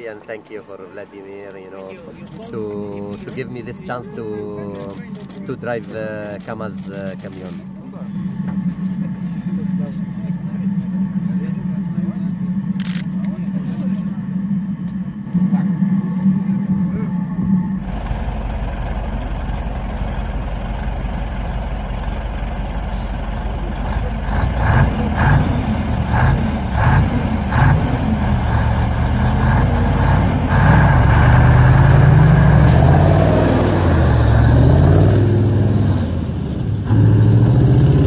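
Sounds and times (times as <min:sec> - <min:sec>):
diesel truck engine revving: 0:02.2 - 0:38.0.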